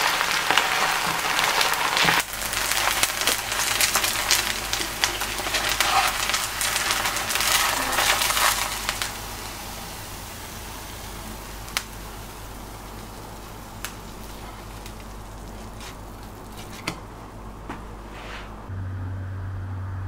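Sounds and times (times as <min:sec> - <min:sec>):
pancake frying in oil: 0:00.0 - 0:16.9.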